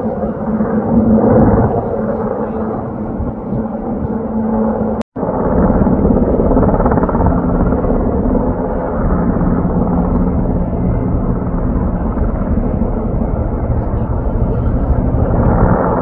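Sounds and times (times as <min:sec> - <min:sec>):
helicopter rotors and engines: 0:00.0 - 0:16.0.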